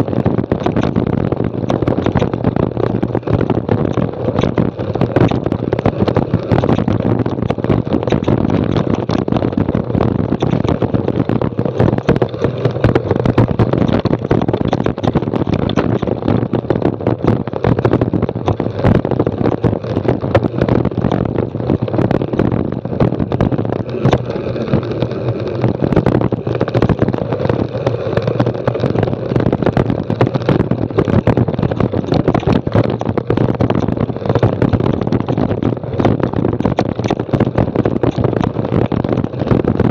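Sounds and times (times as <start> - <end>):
bike tyres clattering over stones: 0.0 - 39.9
wind on microphone: 0.0 - 39.9.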